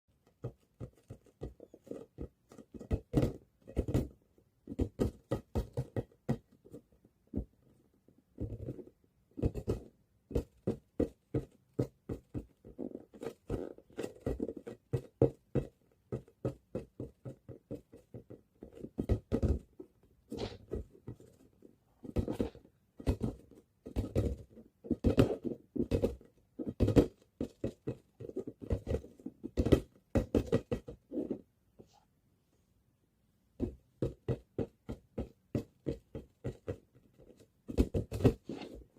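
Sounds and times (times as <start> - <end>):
ball bouncing: 0.2 - 7.7, 8.3 - 21.4, 22.0 - 31.4, 33.6 - 38.8.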